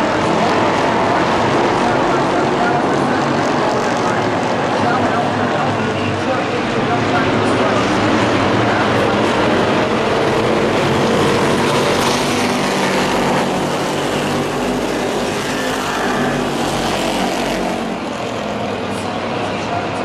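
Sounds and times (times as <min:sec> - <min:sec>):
race truck engines droning: 0:00.0 - 0:20.0.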